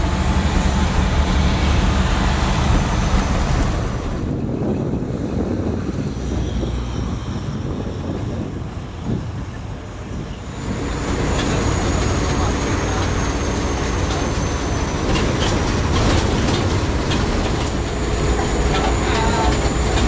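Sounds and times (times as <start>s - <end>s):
road rumble: 0.0s - 20.0s
wind noise: 0.0s - 20.0s.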